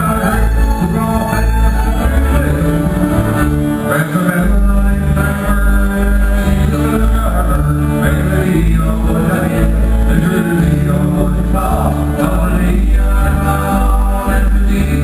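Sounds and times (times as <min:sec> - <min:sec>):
live country band music: 0:00.0 - 0:15.0
man singing: 0:00.0 - 0:15.0.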